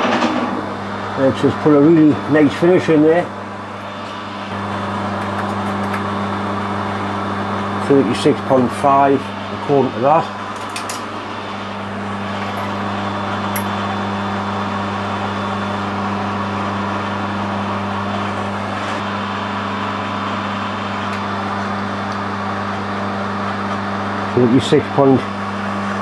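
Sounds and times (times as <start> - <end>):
workshop machinery humming: 0.0 - 26.0.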